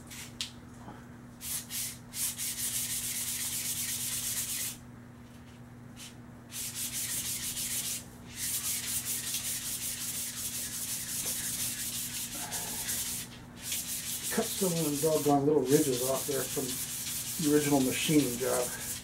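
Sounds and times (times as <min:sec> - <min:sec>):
steady low hum: 0:00.0 - 0:19.0
sandpaper rubbing on metal: 0:01.4 - 0:04.8, 0:06.0 - 0:19.0.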